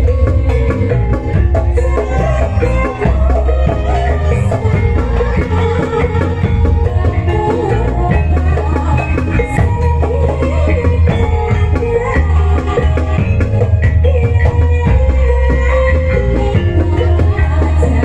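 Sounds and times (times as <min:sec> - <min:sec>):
gamelan-style music: 0:00.0 - 0:18.0
pounding hand drum: 0:00.0 - 0:18.0.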